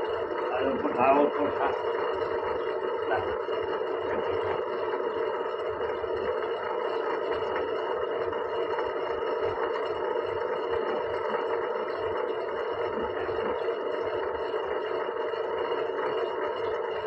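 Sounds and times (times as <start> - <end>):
potter's wheel motor hum: 0.0 - 17.0.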